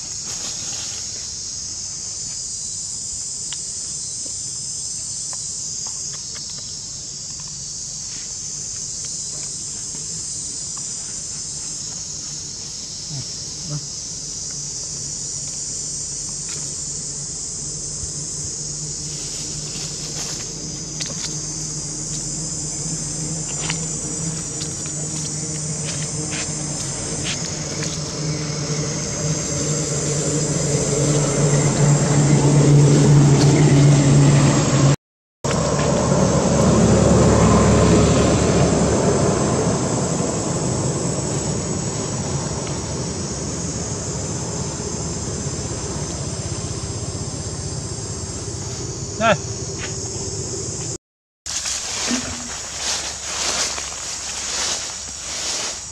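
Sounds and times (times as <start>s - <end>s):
insect chorus buzzing: 0.0s - 55.9s
vehicle engine hum: 3.1s - 55.9s.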